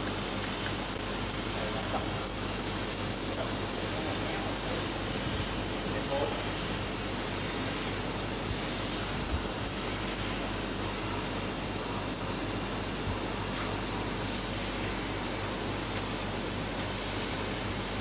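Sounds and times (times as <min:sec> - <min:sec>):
laser cutter hissing: 0:00.0 - 0:18.0.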